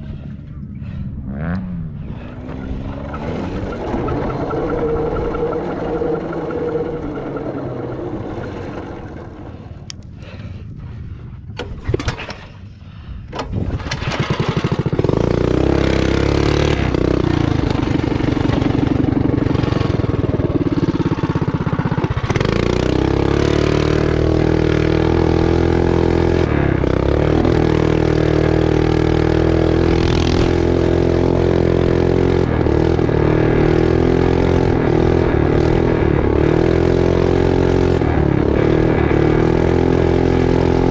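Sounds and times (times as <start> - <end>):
small engine revving: 0.8 - 10.0, 13.7 - 40.9.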